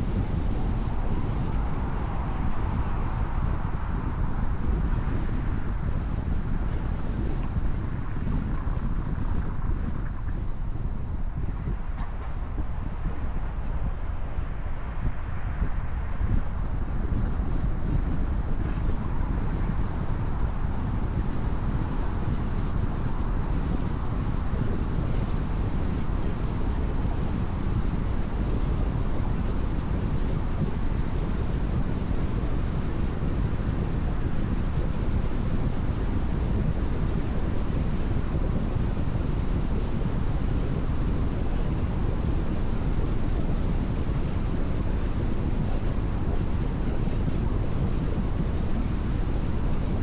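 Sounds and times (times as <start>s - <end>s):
car driving low rumble: 0.0s - 45.8s
wind: 0.0s - 50.0s.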